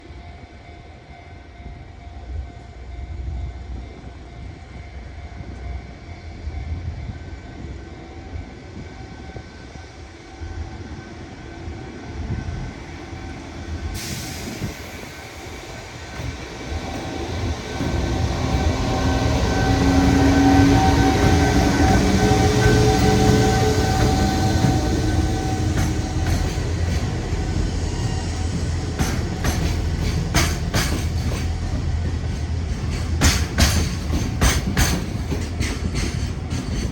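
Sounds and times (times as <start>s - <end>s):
freight train rumble: 0.0s - 36.9s.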